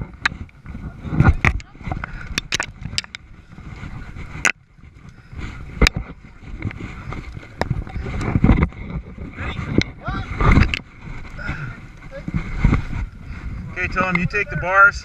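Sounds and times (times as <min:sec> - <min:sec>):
low uneven handling rumble: 0:00.0 - 0:15.0.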